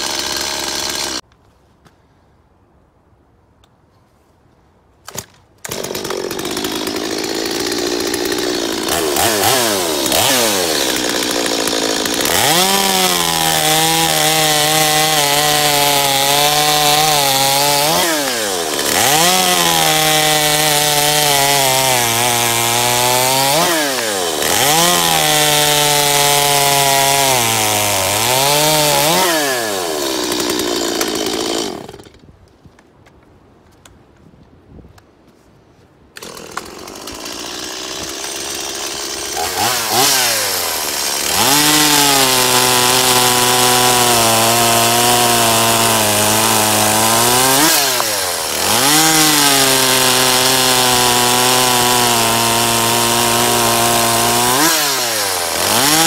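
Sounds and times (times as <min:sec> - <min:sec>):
chainsaw cutting wood: 0:00.0 - 0:01.2, 0:05.1 - 0:32.2, 0:36.2 - 0:56.0.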